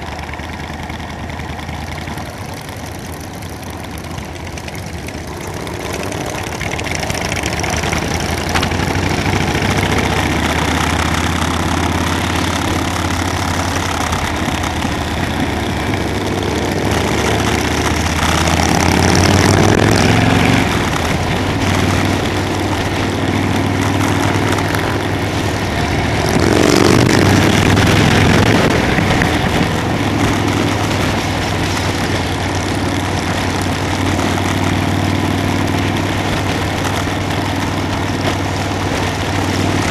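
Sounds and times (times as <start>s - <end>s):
motorcycle engine accelerating: 0.0s - 39.9s
steady noisy rush: 0.0s - 39.9s.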